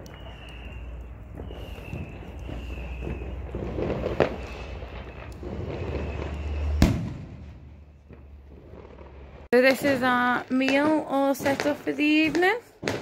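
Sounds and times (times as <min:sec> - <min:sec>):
sharp cracks of fire: 0:00.0 - 0:13.0
wood fire crackling: 0:00.0 - 0:13.0.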